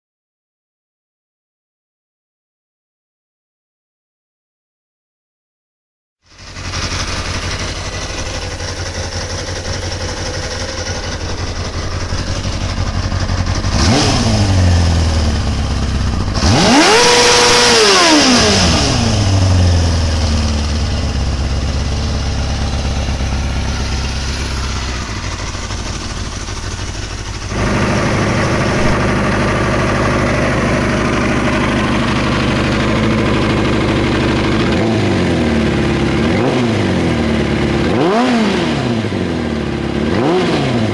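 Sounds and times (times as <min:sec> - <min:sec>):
motorcycle engine idling and revving: 0:06.2 - 0:40.9.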